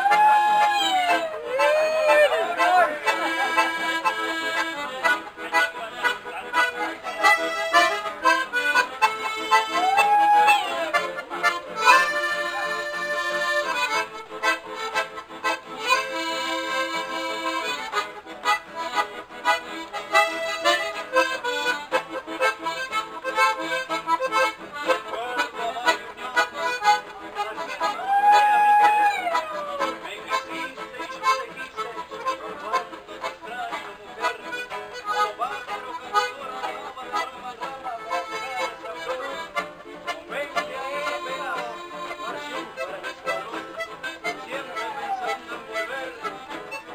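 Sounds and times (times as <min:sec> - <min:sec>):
accordions playing: 0:00.0 - 0:46.9.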